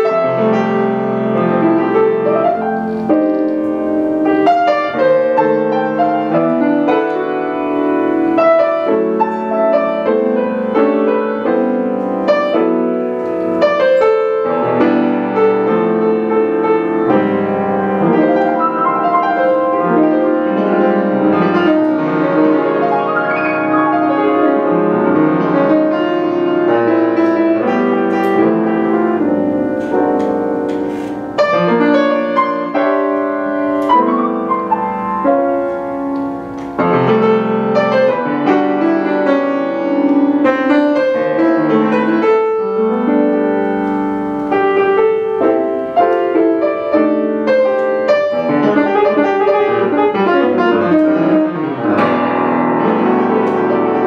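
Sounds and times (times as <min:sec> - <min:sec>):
grand piano playing jazz: 0:00.0 - 0:54.0.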